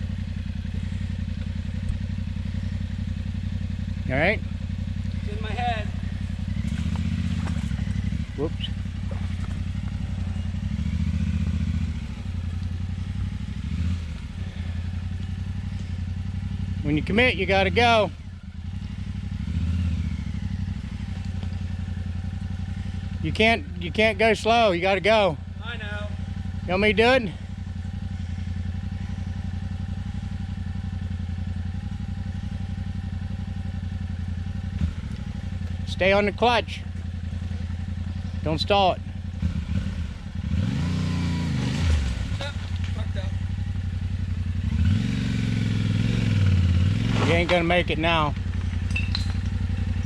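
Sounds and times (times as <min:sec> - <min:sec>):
motorcycle engine at low revs: 0:00.0 - 0:50.0.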